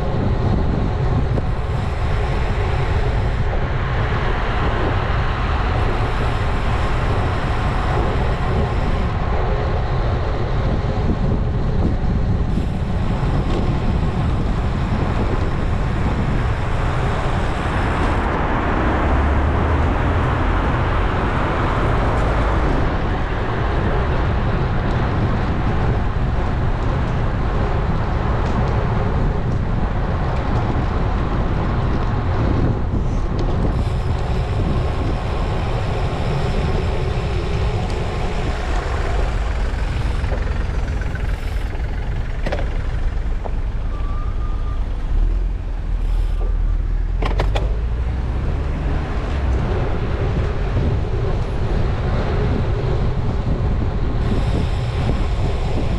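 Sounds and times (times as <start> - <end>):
road noise rumble: 0.0 - 55.9
wind rushing on microphone: 0.0 - 55.9.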